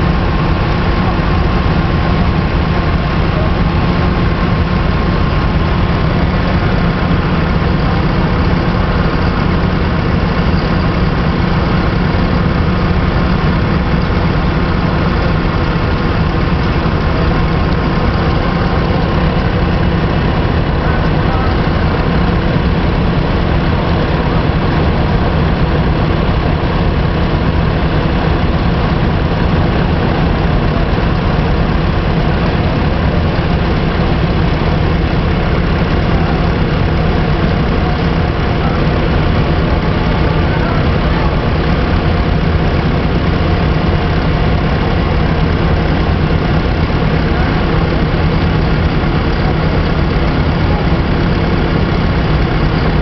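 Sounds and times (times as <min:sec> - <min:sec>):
thin steady whine: 0:00.0 - 0:53.0
threshing machine drone: 0:00.0 - 0:53.0
tractor engine running: 0:00.0 - 0:53.0.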